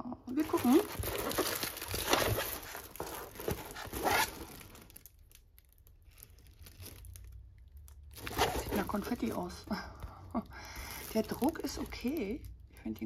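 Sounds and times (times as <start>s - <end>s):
plastic film crinkling: 0.3s - 13.0s.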